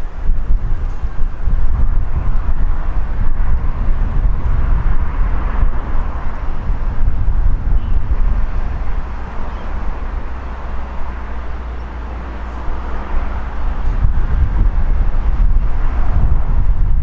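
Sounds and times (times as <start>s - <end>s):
diesel train rumbling past: 0.0s - 17.0s.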